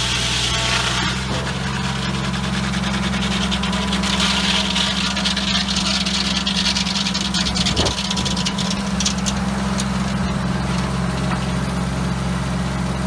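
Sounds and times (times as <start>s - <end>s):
saw blade cutting wood: 0.0s - 11.6s
tractor engine running: 0.0s - 13.0s.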